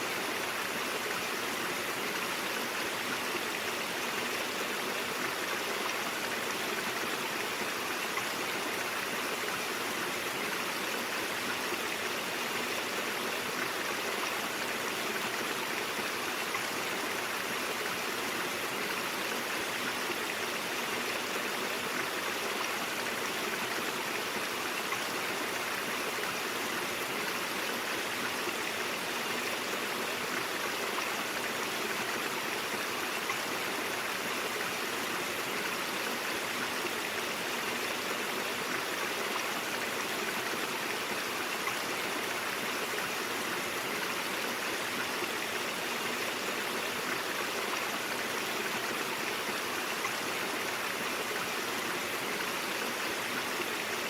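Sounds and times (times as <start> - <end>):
stream water running over rocks: 0.0 - 54.0.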